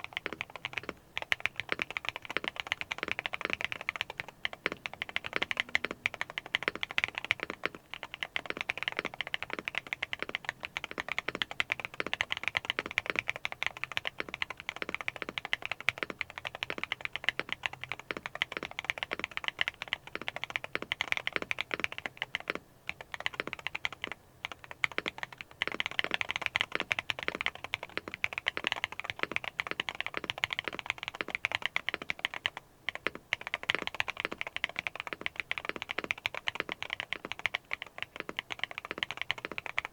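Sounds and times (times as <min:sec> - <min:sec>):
clacky mechanical keyboard typing: 0:00.0 - 0:39.9.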